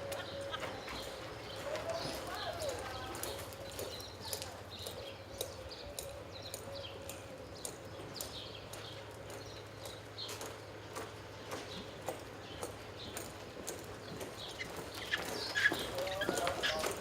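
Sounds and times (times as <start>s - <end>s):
horse hoofbeats: 0.0s - 17.0s.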